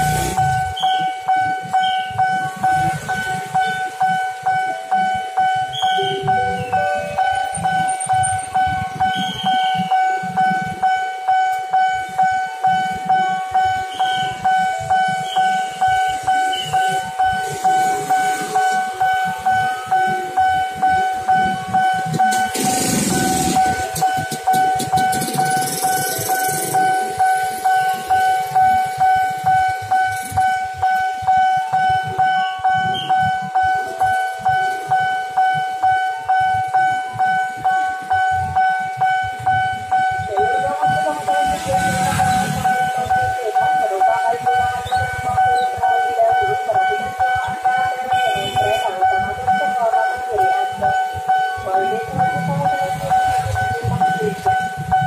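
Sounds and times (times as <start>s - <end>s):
level crossing warning bell: 0.0s - 55.0s.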